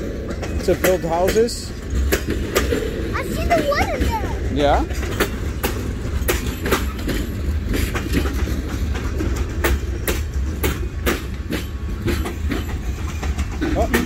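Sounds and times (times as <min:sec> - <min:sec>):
freight train rumbling: 0:00.0 - 0:14.0
train wheel clicks: 0:00.0 - 0:14.0.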